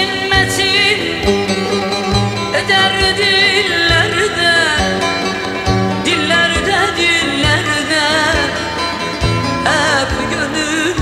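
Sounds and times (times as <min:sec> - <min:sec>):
folk music with plucked strings: 0:00.0 - 0:11.0.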